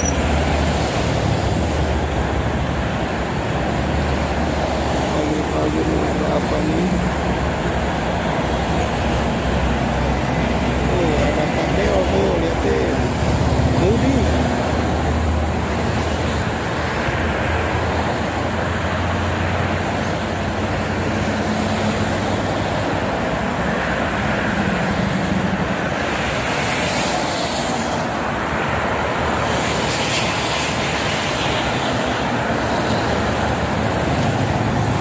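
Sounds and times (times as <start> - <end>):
heavy road traffic: 0.0 - 35.0.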